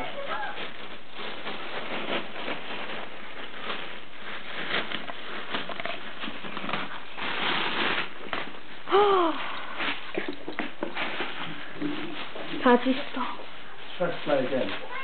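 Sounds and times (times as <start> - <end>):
foil balloon crinkling: 0.0 - 15.0.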